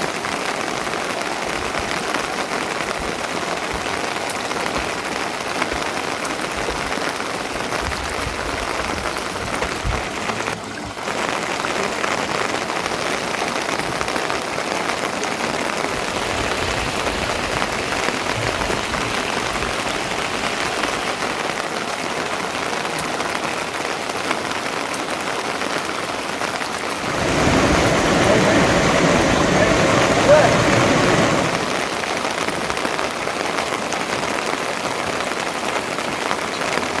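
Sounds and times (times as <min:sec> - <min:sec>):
steady rain hissing: 0:00.0 - 0:37.0.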